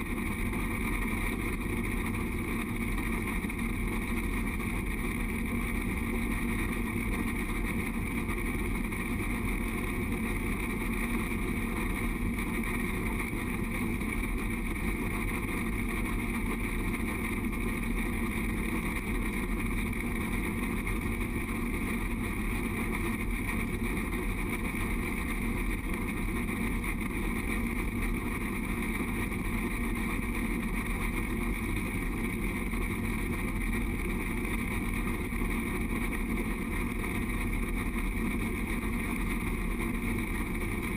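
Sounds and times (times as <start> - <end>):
wind: 0.0 - 40.9.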